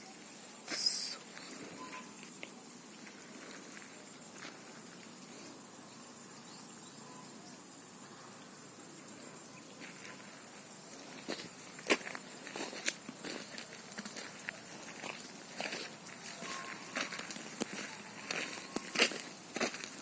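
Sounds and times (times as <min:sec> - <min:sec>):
crickets chirring: 0:00.0 - 0:20.0
low outdoor hiss: 0:00.0 - 0:20.0.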